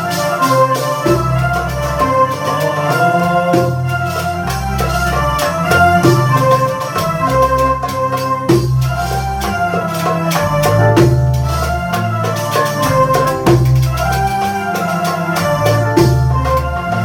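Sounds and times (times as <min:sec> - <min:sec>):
electric bass line: 0:00.0 - 0:17.0
organ-like keyboard melody: 0:00.0 - 0:17.0.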